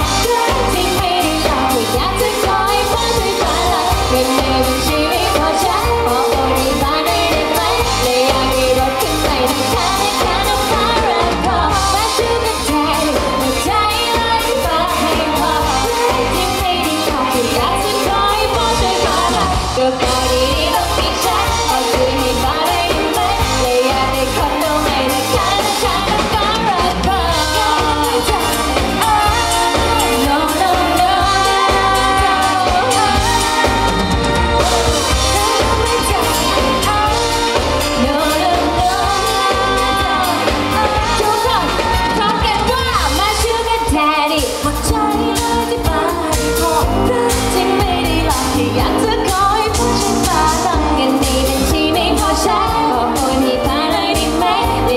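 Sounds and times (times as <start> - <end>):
drums: 0.0 - 54.9
electric guitar: 0.0 - 54.9
keyboard: 0.0 - 54.9
woman singing: 0.0 - 54.9.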